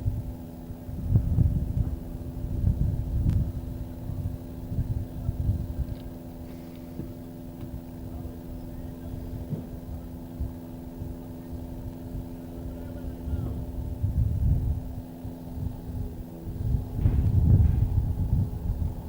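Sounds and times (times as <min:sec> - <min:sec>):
steady low hum: 0:00.0 - 0:19.0
uneven low rumble: 0:00.0 - 0:19.0.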